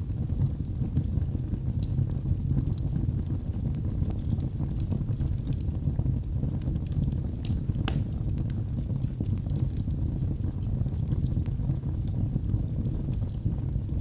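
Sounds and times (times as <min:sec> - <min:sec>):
wood fire burning: 0:00.0 - 0:14.0.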